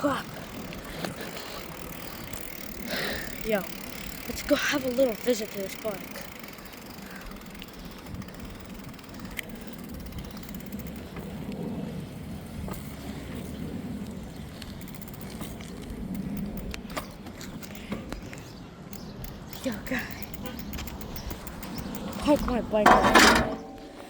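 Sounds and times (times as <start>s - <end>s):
bicycle clicks and rattles: 0.0s - 24.0s
bicycle tyres rolling: 0.0s - 24.0s.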